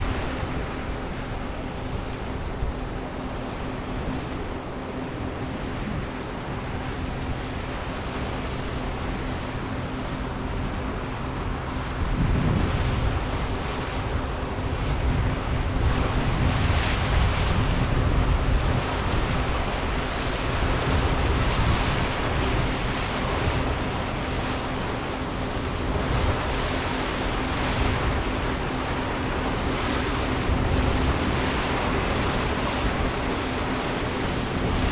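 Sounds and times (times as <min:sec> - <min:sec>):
combine harvester drone: 0:00.0 - 0:34.9.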